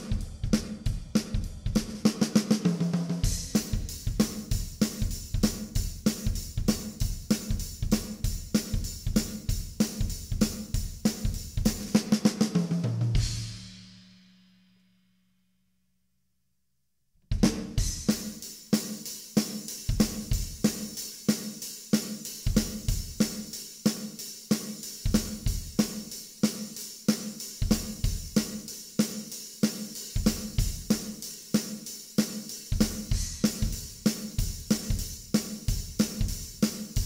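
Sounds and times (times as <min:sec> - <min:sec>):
hi-hat and cymbal strokes: 0:00.0 - 0:12.2, 0:17.8 - 0:37.0.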